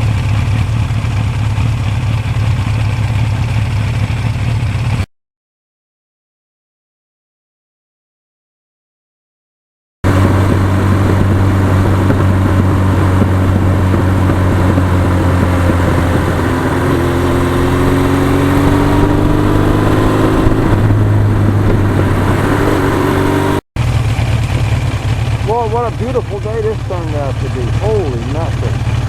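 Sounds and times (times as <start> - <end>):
motorcycle engine running: 0.0 - 5.1, 10.0 - 29.0.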